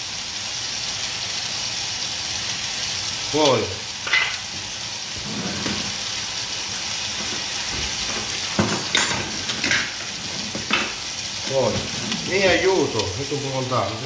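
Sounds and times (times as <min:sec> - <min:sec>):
sausage sizzling in a frying pan: 0:00.0 - 0:14.0.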